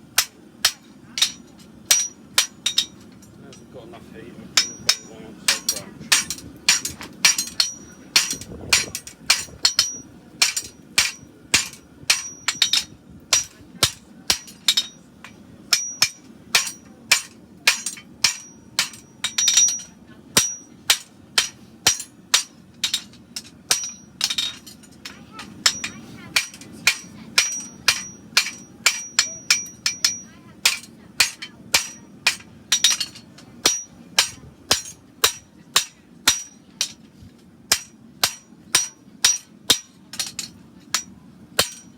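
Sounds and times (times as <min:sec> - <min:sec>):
hammer striking steel on anvil: 0:00.2 - 0:03.7, 0:04.6 - 0:37.1, 0:37.7 - 0:41.9.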